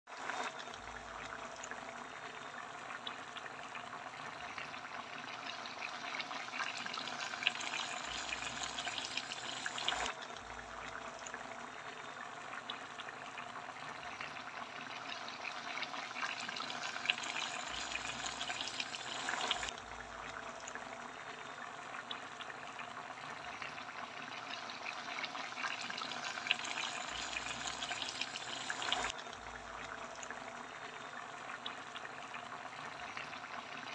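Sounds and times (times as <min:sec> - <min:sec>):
sauce simmering in a pan: 0:00.1 - 0:33.9.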